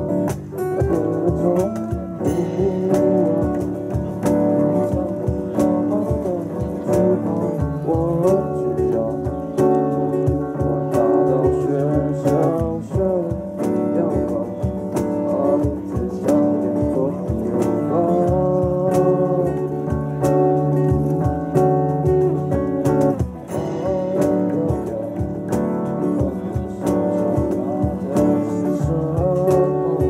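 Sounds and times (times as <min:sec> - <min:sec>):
cajon beat: 0:00.0 - 0:30.0
electric bass: 0:00.0 - 0:30.0
man singing: 0:00.0 - 0:30.0
strummed acoustic guitars: 0:00.0 - 0:30.0.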